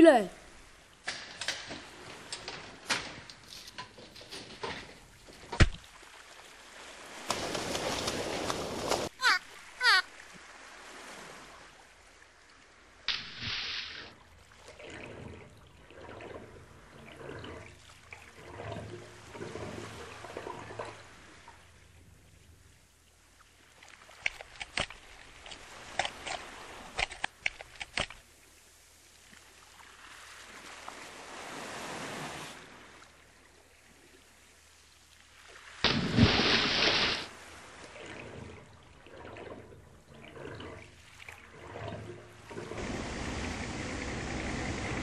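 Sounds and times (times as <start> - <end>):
water trickling and washing: 0.0 - 45.0.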